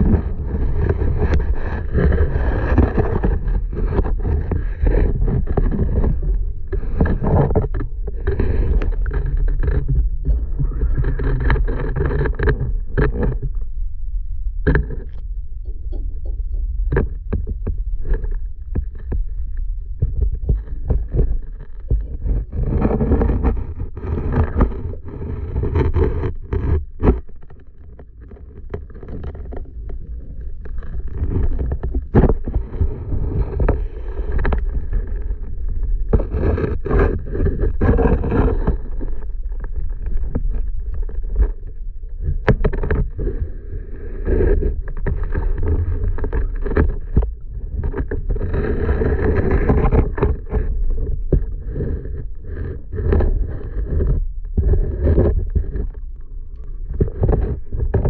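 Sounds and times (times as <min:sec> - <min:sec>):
low underwater rumble: 0:00.0 - 0:58.0.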